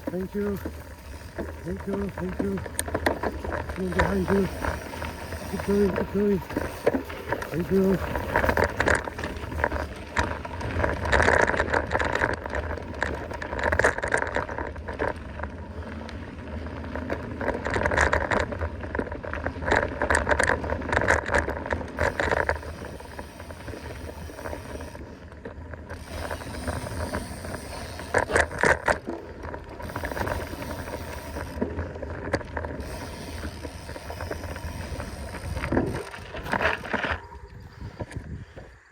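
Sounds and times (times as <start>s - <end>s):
bike rattling and knocking: 0.0s - 38.5s
bike tyres on dirt and gravel: 0.0s - 38.9s.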